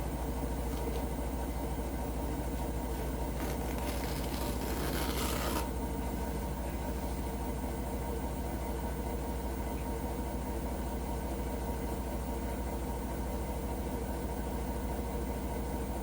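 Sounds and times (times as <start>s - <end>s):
washing machine humming and rumbling: 0.0s - 16.0s.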